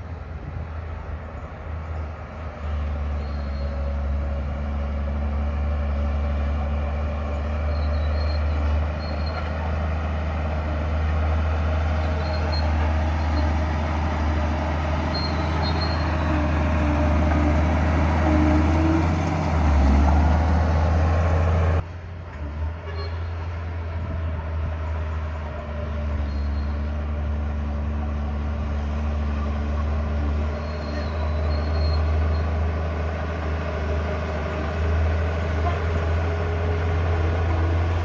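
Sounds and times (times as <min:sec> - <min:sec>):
heavy diesel engine humming: 0:00.0 - 0:38.0.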